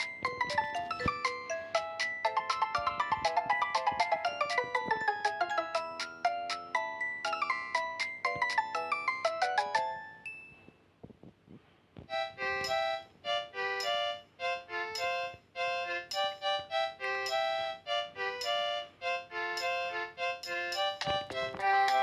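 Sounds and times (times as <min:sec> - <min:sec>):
phone ringtone melody: 0:00.0 - 0:10.6, 0:12.2 - 0:22.0
ringtone tune of held notes: 0:00.0 - 0:10.8, 0:12.1 - 0:22.0.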